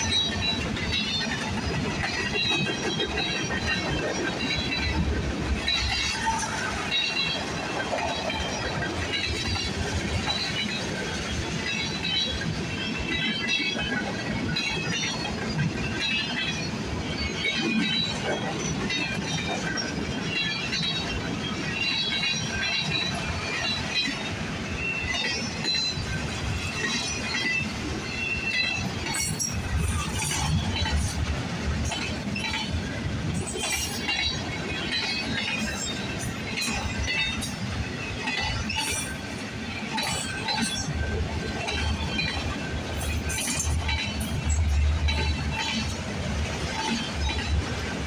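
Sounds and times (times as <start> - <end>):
train wheels clattering on rails: 0.0 - 48.0.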